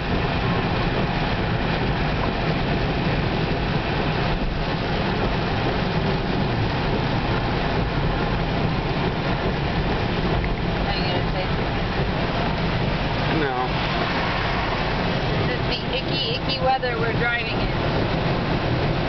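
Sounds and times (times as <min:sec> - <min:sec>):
rain on car: 0:00.0 - 0:19.0
tyres on wet pavement: 0:00.0 - 0:19.0.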